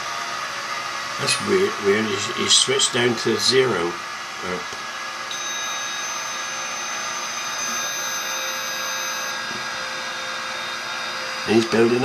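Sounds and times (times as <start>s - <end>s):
electric motor whining: 1.2s - 12.0s.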